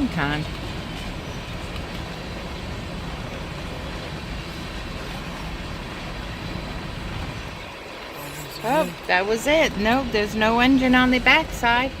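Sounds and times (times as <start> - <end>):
freight train cars rolling past: 0.0 - 12.0.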